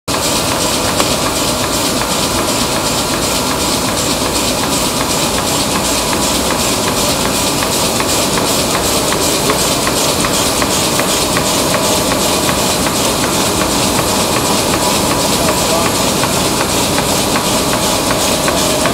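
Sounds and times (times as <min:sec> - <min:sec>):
printing press running: 0:00.1 - 0:18.9.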